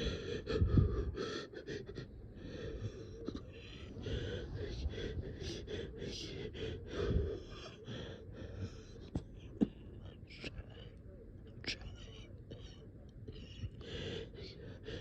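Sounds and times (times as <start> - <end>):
person gasping breaths: 0.0 - 9.7, 12.7 - 15.0.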